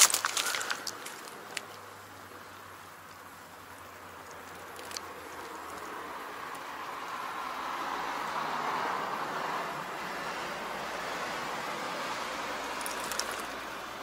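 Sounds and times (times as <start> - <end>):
vehicle approaching: 0.0 - 14.0.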